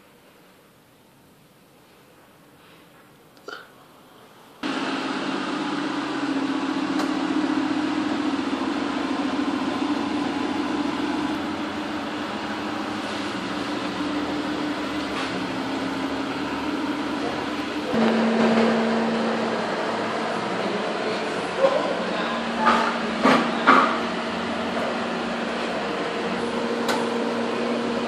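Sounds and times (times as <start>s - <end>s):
car engine idling: 4.6s - 28.0s.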